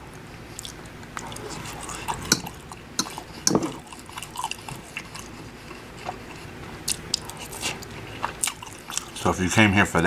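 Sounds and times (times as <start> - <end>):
chewing and wet mouth sounds: 0.5 - 9.3.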